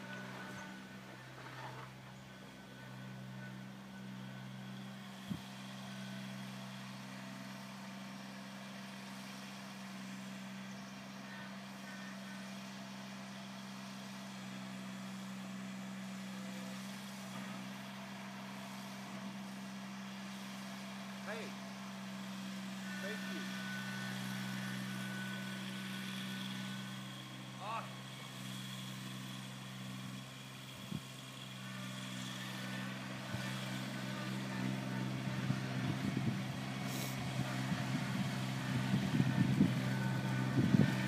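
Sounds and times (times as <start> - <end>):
distant garden tractor engine: 0.0 - 41.0.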